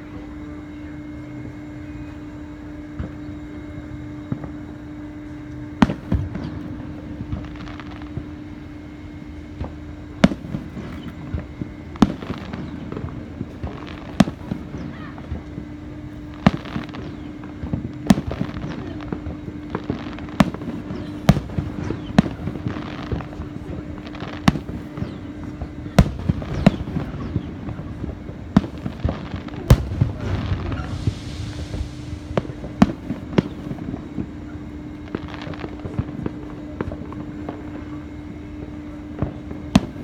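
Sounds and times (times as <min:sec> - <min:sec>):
steady low hum: 0:00.0 - 0:40.0
fireworks crackling: 0:03.0 - 0:40.0
fireworks bangs: 0:05.6 - 0:40.0.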